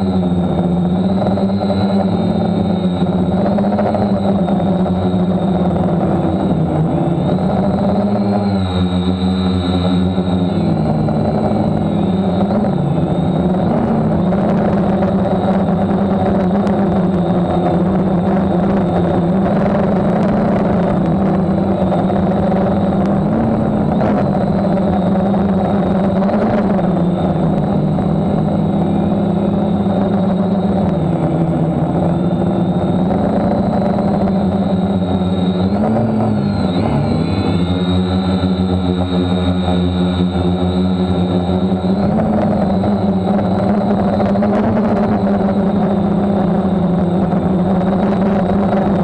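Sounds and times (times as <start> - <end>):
drone motors buzzing: 0.0 - 49.0.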